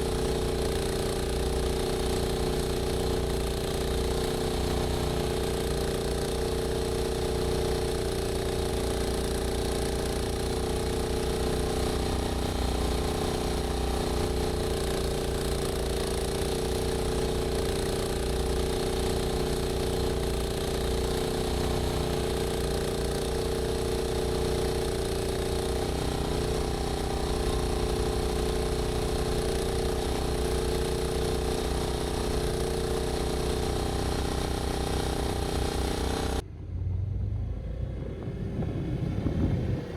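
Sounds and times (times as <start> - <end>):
snowblower running: 0.0 - 36.4.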